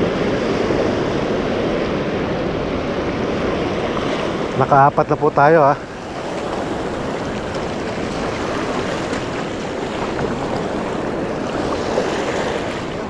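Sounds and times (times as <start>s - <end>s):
small waves washing on beach: 0.0s - 13.0s.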